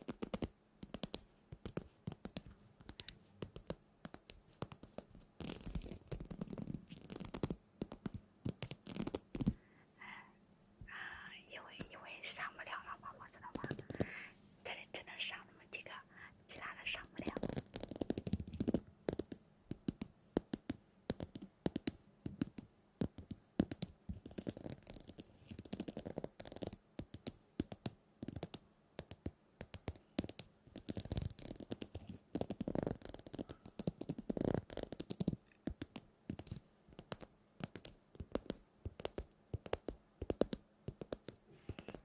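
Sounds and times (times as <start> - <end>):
hands tapping and scratching: 0.0 - 9.6, 13.5 - 14.1, 17.0 - 42.0.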